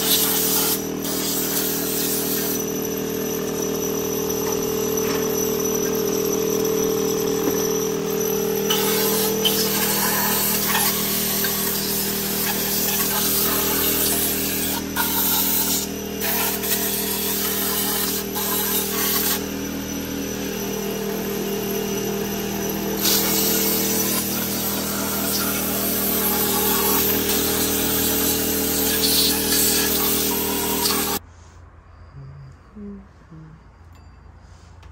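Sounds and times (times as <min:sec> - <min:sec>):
power tool running: 0:00.0 - 0:31.2.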